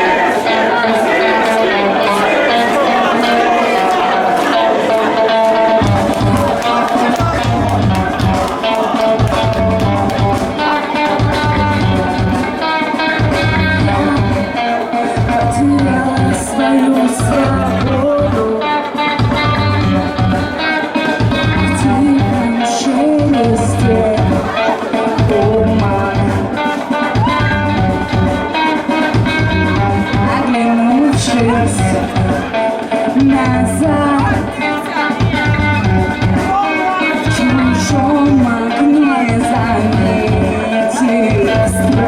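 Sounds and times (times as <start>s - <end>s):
drum-kit beat: 0.0s - 42.0s
guitars sustained notes: 0.0s - 42.0s
live rock band playing: 0.0s - 42.0s.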